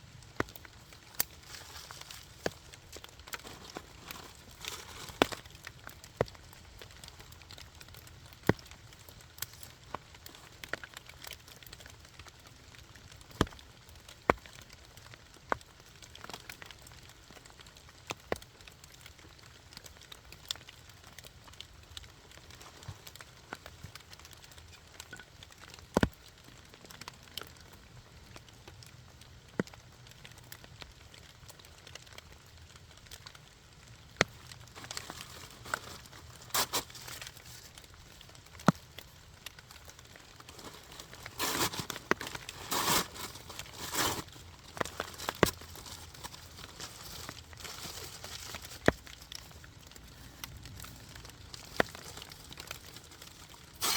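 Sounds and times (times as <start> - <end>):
campfire crackling and popping: 0.0 - 53.9
faint rain patter: 0.0 - 53.9.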